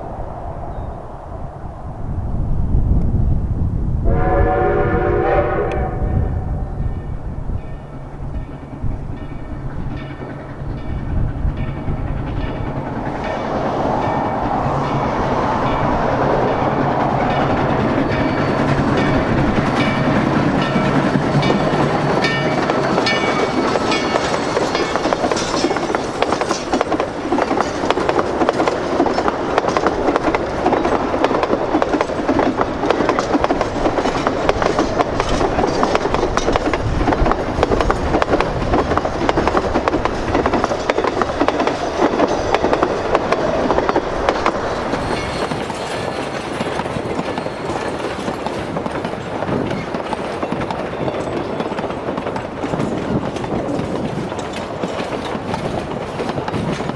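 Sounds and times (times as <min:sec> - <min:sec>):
steam train rolling past: 0:00.0 - 0:56.9
wheels clattering over rail joints: 0:07.0 - 0:56.9.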